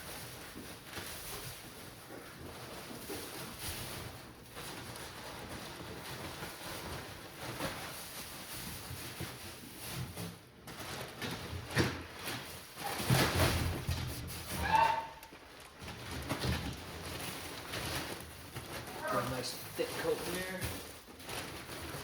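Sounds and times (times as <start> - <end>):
wood shavings rustling and scraping: 0.0 - 22.0.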